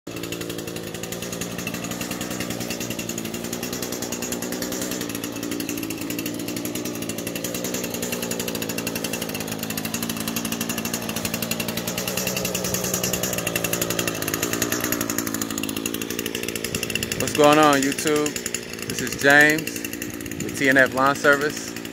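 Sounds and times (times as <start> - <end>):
small gasoline engine running: 0.1 - 21.9.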